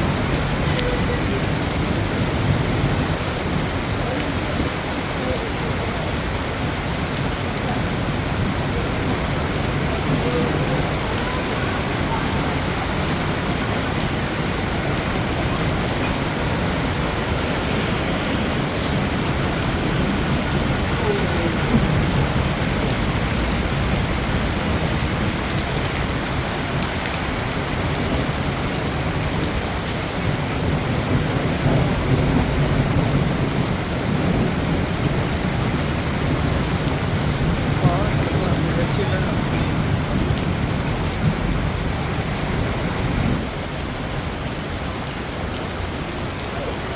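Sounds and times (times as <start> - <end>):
heavy rain on surfaces: 0.0 - 46.9.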